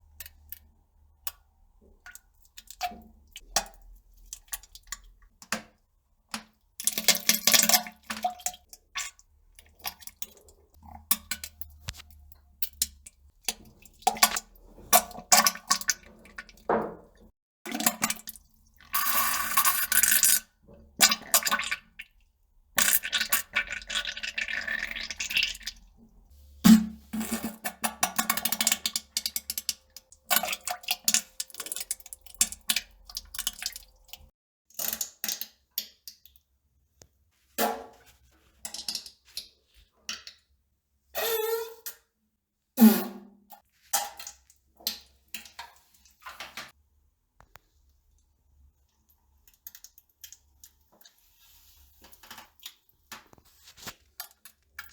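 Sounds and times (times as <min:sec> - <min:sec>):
drips and plops into toilet water: 0:00.0 - 0:42.1, 0:42.9 - 0:53.4, 0:54.0 - 0:54.9.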